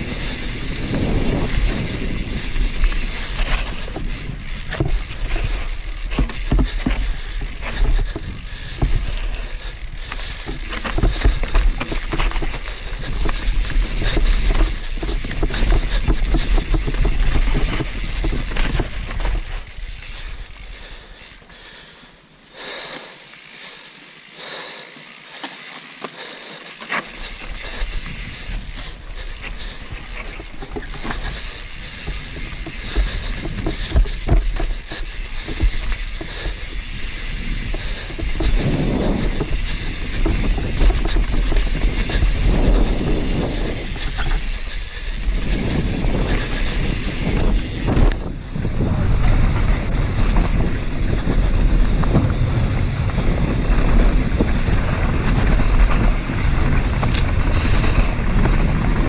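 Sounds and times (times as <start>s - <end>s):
wind rushing over microphone: 0.0s - 19.7s, 27.6s - 59.0s
tyres rumbling on dirt: 0.0s - 21.4s, 25.3s - 59.0s
bike rattling and clicking: 0.0s - 59.0s.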